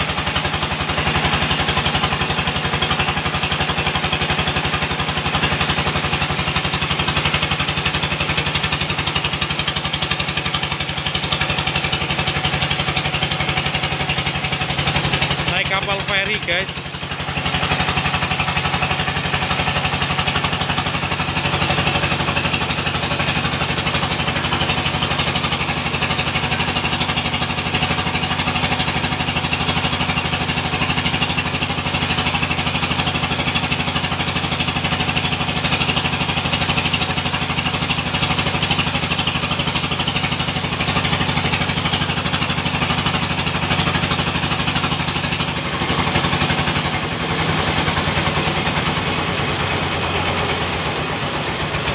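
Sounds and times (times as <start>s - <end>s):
engine running steadily: 0.0s - 51.9s.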